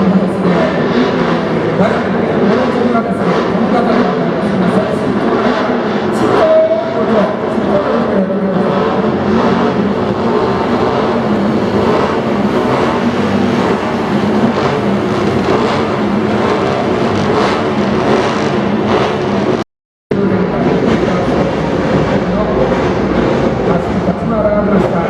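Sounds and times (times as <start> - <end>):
racing car and motorcycle engines: 0.0 - 25.0.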